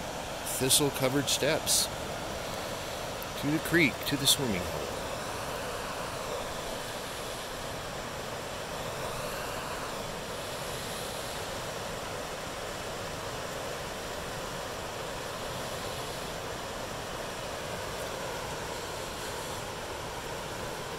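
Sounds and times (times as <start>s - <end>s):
floodwater rushing and churning: 0.0s - 20.9s.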